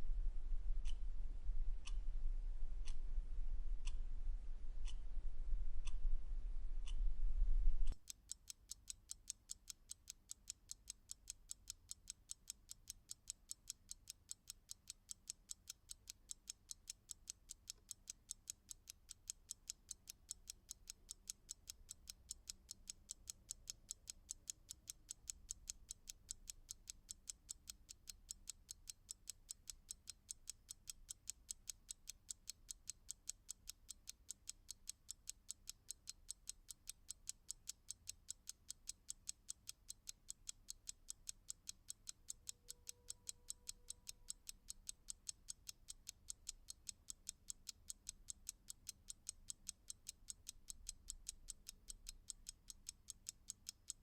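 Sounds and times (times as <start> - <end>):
clock ticking: 7.9 - 54.0.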